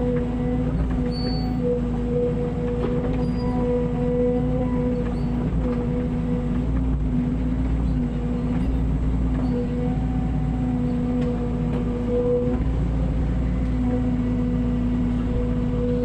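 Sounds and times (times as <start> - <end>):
engine whine: 0.0 - 16.0
excavator diesel engine rumbling: 0.0 - 16.0.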